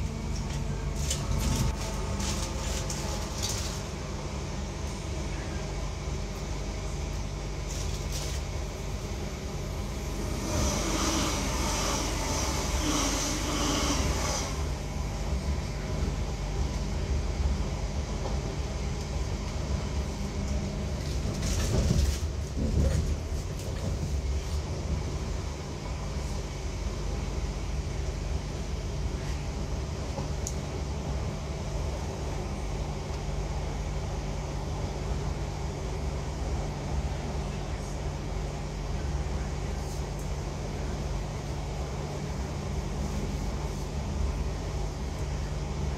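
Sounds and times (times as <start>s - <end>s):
rolling rail noise: 0.0s - 45.9s
train interior low hum: 0.0s - 45.9s.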